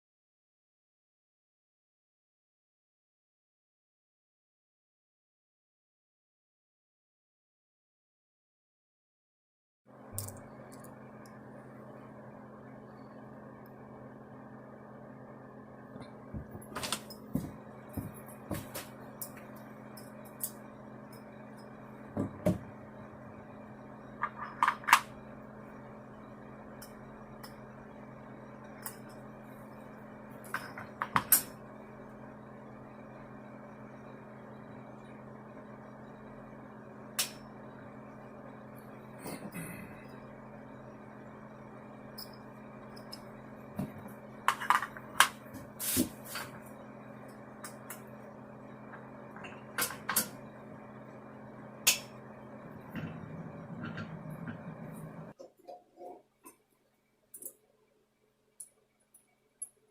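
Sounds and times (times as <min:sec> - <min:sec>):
steady low hum: 0:09.9 - 0:59.9.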